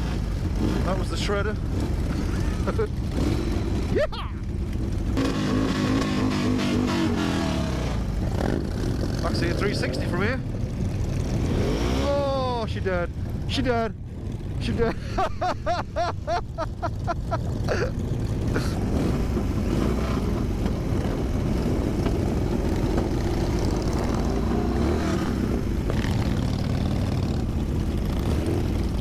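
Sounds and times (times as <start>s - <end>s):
motorcycle engine running: 0.0s - 15.0s, 15.6s - 29.0s.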